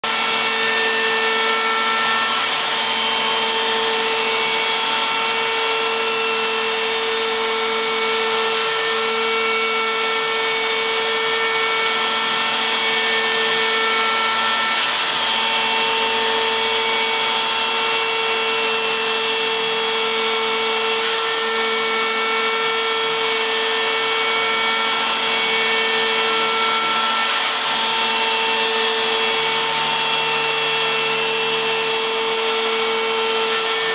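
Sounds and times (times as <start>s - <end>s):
router spindle whining: 0.0s - 33.9s.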